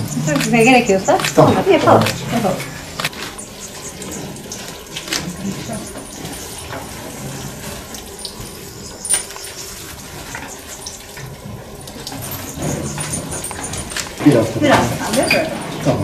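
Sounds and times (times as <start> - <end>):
cattle rustling: 0.0 - 16.0.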